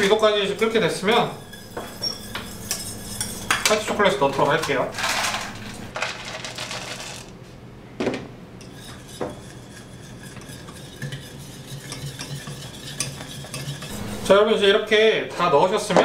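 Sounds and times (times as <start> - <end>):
whisk scraping metal saucepan: 0.0 - 5.9, 8.6 - 15.8.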